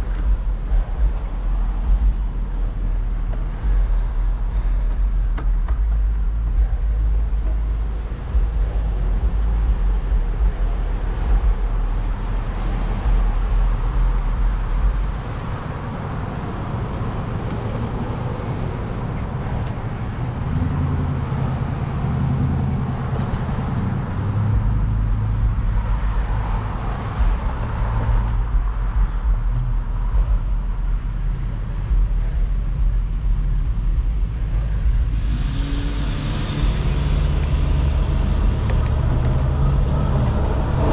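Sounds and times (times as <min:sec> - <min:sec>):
road noise: 0:00.0 - 0:40.9
wind buffeting microphone: 0:00.0 - 0:40.9.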